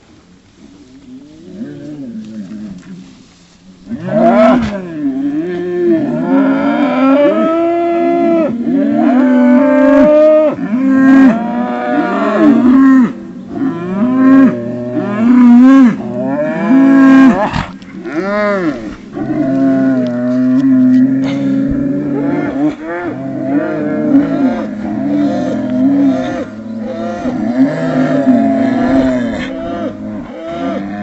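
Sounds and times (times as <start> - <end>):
bulls mooing: 3.9 - 31.0.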